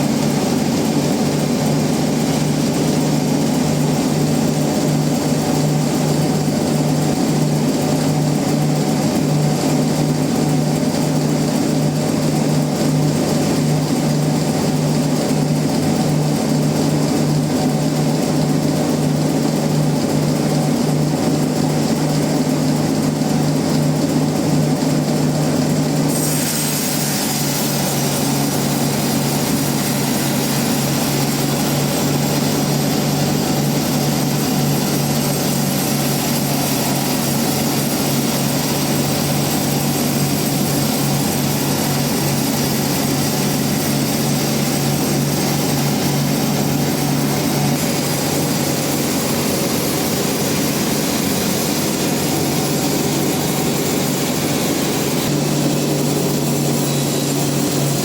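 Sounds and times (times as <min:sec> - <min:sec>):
bandsaw machine drone: 0:00.0 - 0:58.0.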